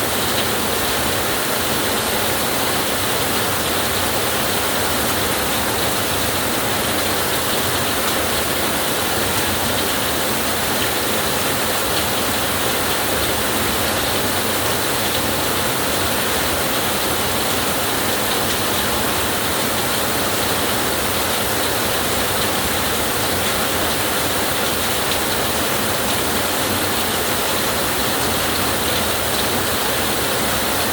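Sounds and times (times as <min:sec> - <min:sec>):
heavy rainfall: 0:00.0 - 0:30.9.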